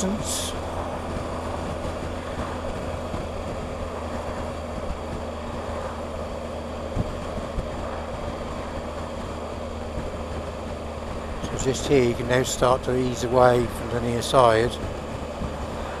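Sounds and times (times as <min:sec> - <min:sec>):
motorcycle engine drone: 0:00.0 - 0:16.0
wind rush on microphone: 0:00.0 - 0:16.0.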